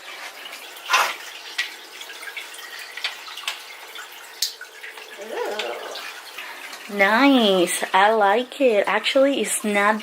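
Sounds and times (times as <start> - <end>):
aquarium filter water trickling: 0.0 - 10.0.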